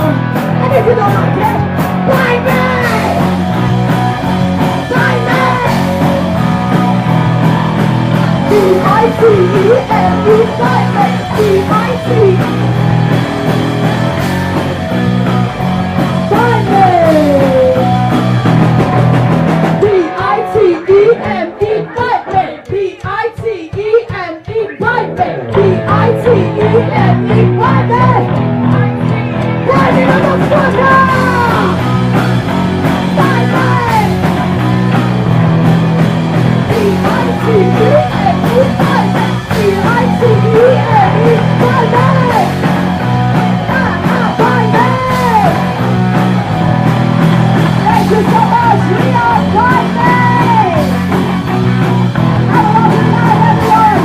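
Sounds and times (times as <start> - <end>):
distorted lead guitar: 0.0 - 22.7, 24.6 - 54.0
live rock band playing: 0.0 - 23.4, 24.0 - 54.0.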